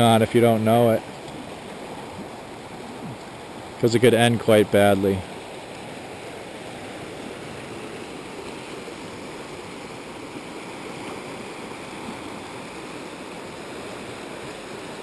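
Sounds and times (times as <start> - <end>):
river water rushing over boulders: 0.0 - 15.0.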